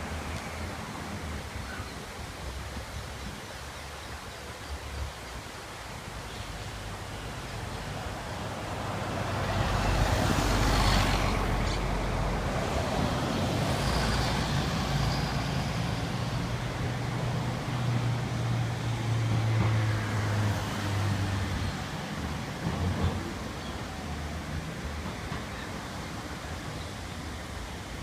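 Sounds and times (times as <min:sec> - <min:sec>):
road noise rush: 0:00.0 - 0:28.0.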